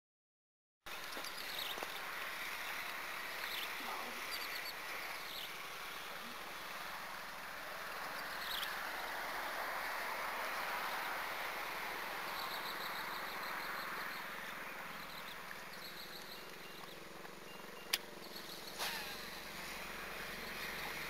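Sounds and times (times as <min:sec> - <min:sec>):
outdoor background hiss: 0:00.9 - 0:21.0.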